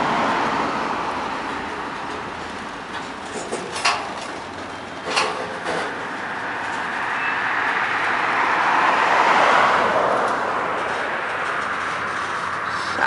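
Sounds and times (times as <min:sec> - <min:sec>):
freight train rolling rush: 0:00.0 - 0:13.0
train wheels clanking: 0:01.4 - 0:12.7.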